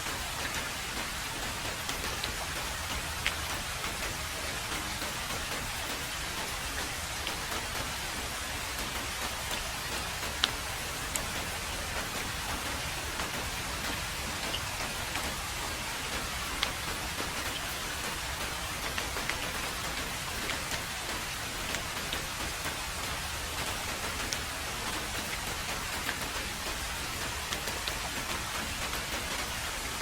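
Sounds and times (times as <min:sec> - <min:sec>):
heavy rain on road: 0:00.0 - 0:30.0.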